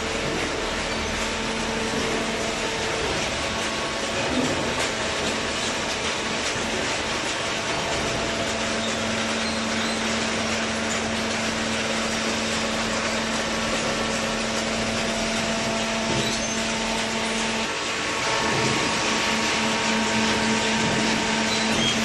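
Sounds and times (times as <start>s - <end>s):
baler machine humming: 0.0s - 22.0s.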